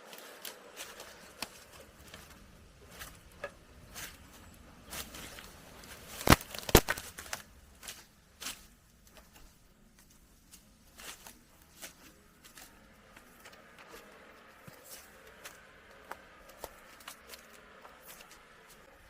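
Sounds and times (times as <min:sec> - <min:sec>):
footsteps through undergrowth: 0:00.0 - 0:19.0
twigs snapping: 0:00.0 - 0:19.0.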